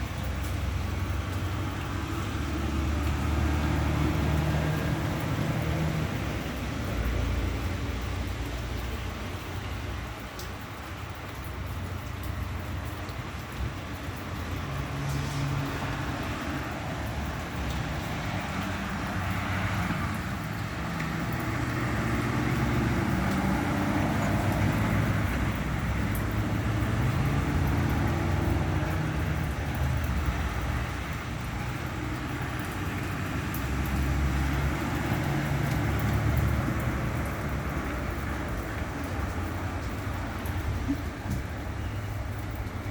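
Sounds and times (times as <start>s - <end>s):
vehicle engine rumble: 0.0s - 42.9s.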